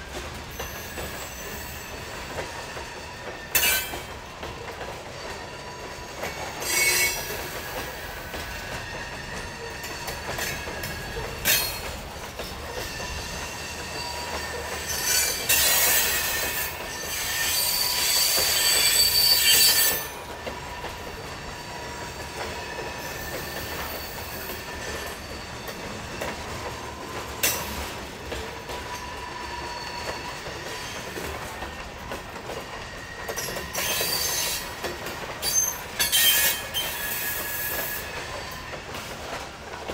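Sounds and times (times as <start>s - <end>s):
heavy train rolling past: 0.0s - 39.9s
track creaks: 0.0s - 39.9s
high-pitched wheel squeals: 0.5s - 4.0s, 5.4s - 11.8s, 12.7s - 27.8s, 28.8s - 31.3s, 32.8s - 34.8s, 35.4s - 38.8s.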